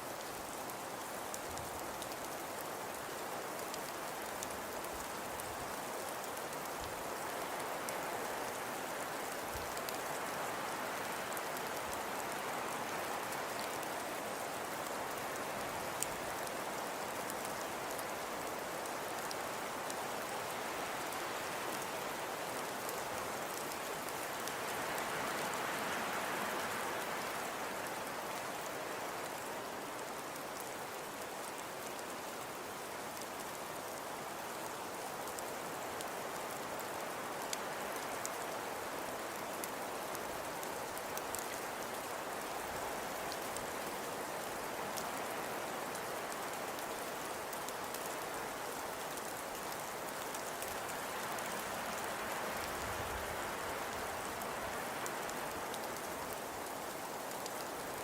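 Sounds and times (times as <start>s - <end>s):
hiss of falling precipitation: 0.0s - 58.0s.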